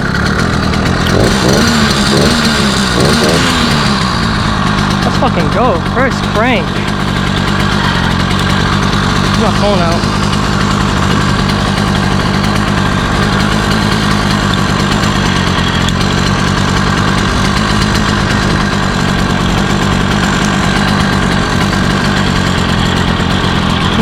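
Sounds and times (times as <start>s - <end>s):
two-stroke engine idling: 0.0s - 24.0s.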